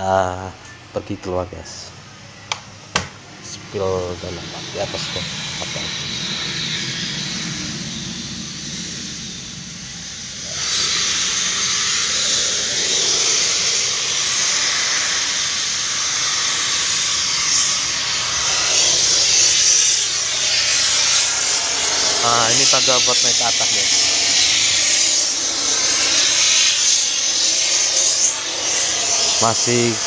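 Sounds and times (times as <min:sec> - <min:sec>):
loud steady hissing: 0:00.0 - 0:30.0
low mechanical hum: 0:00.0 - 0:30.0.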